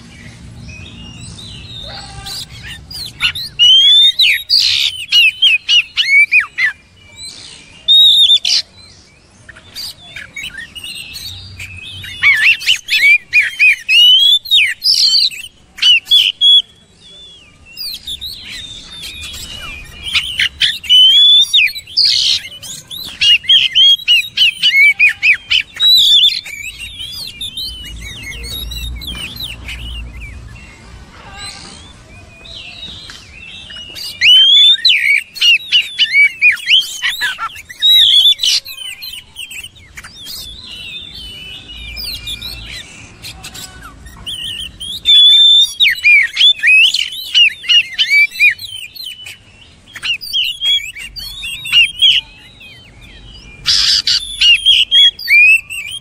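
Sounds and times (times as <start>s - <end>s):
bird singing whistled phrases: 0.7s - 30.8s, 31.4s - 56.0s.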